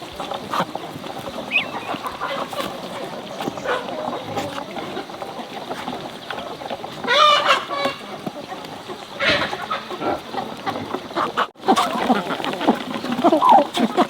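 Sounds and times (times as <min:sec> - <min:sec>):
chicken drawn-out call: 0:00.0 - 0:14.0
chickens clucking: 0:00.0 - 0:14.0.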